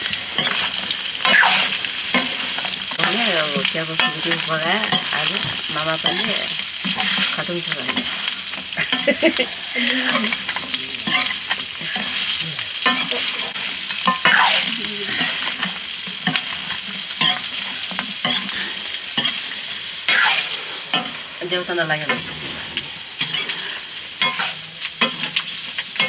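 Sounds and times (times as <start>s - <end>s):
food sizzling in a pan: 0.0s - 26.0s
spoon scraping a pan: 0.0s - 26.0s.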